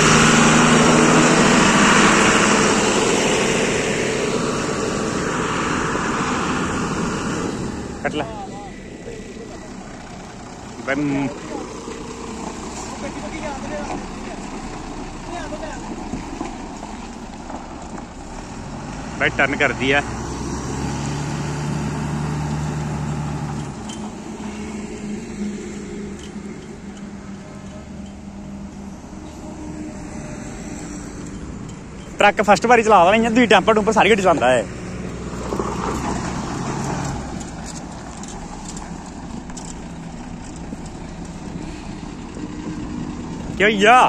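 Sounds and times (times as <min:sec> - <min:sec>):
truck diesel engine pulling away: 0:00.0 - 0:44.0.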